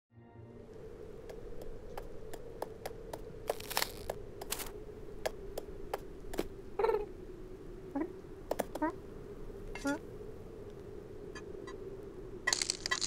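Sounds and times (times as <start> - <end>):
faint steady hum: 0.4 - 13.0.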